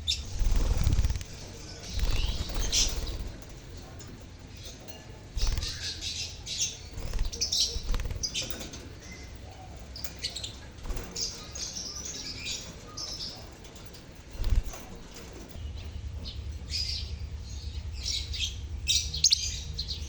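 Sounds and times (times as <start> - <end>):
lovebirds chattering shrill chirps: 0.0 - 20.0.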